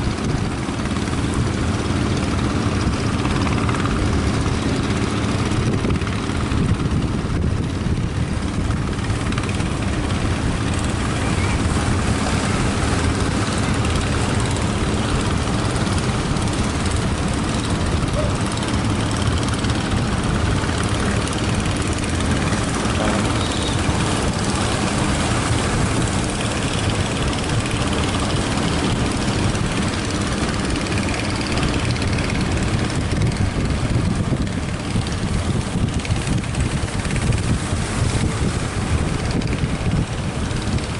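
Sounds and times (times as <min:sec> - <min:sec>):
boat engine running: 0:00.0 - 0:40.9
wind noise on microphone: 0:00.0 - 0:40.9.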